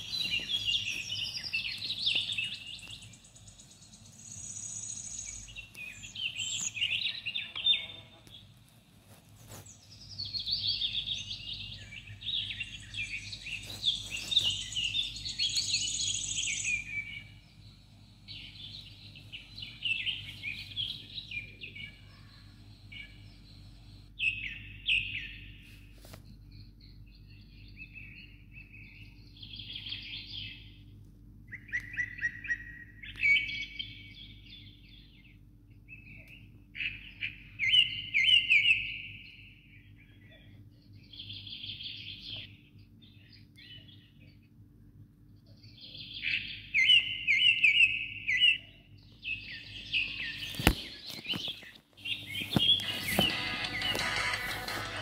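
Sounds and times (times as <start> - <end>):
birds chirping and trilling: 0.0 - 8.6, 9.2 - 25.6, 26.3 - 55.0.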